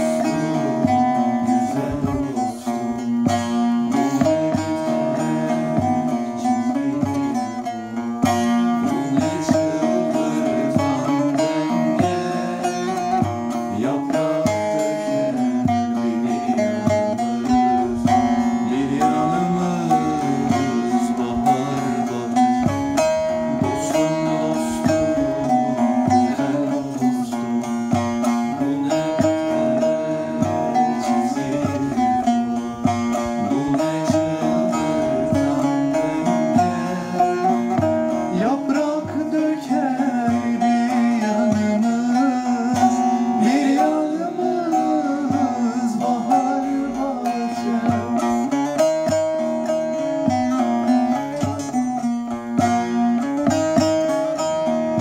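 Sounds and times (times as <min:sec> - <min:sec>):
plucked lute melody: 0:00.0 - 0:55.0.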